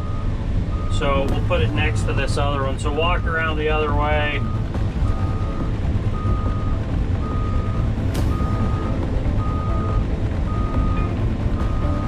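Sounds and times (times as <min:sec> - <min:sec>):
travel alarm beeps: 0:00.0 - 0:01.9, 0:03.0 - 0:12.0
excavator diesel engine rumbling: 0:00.0 - 0:12.0.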